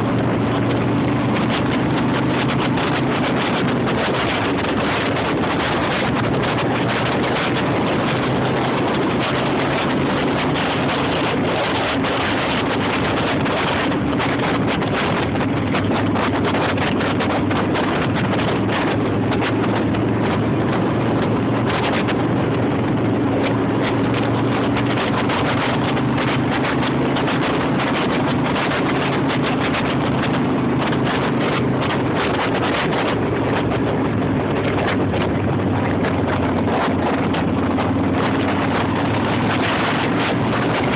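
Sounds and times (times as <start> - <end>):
vehicle engine drone: 0.0 - 40.9
wind buffeting microphone: 0.0 - 40.9.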